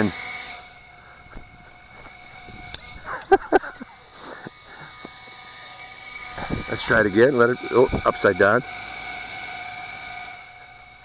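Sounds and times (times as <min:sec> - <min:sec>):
small drone motors whining: 0:00.0 - 0:11.0.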